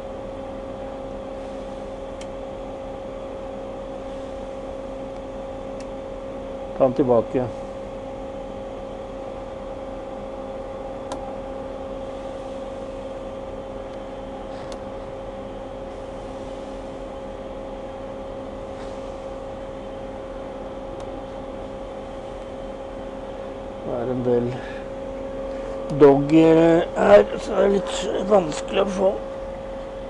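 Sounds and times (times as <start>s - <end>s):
machine hum with constant tone: 0.0s - 30.0s.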